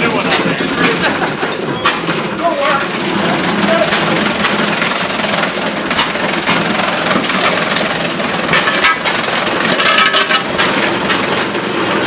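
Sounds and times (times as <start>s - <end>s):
fodder cutter crunching stalks: 0.0s - 12.0s.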